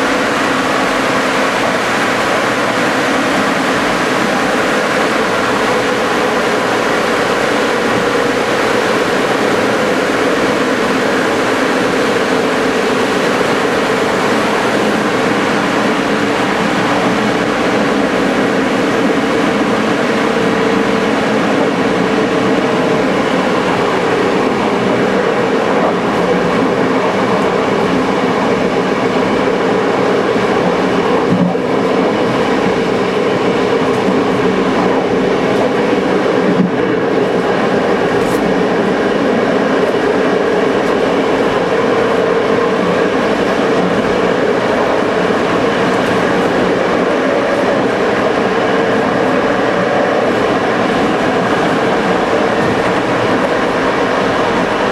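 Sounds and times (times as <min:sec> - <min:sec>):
train wheels rolling on rails: 0:00.0 - 0:54.9.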